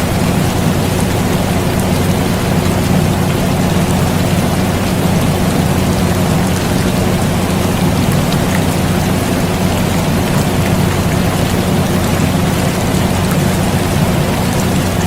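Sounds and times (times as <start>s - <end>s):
air conditioner hum: 0.0s - 15.0s
rain falling on a surface: 0.0s - 15.0s.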